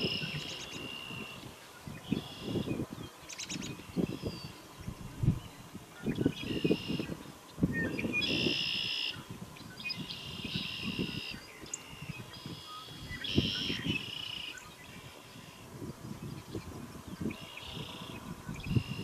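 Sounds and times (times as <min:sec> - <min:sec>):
songbird singing trilled phrases: 0:00.0 - 0:19.0
wind buffeting microphone: 0:00.0 - 0:19.0.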